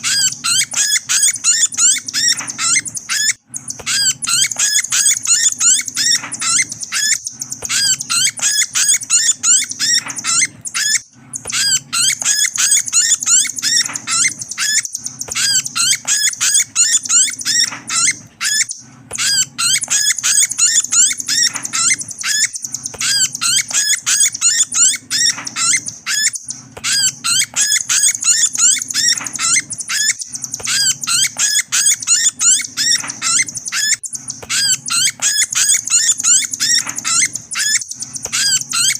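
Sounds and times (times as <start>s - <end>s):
high twittering bird chirps: 0.0s - 38.9s
steady low hum: 0.0s - 38.9s.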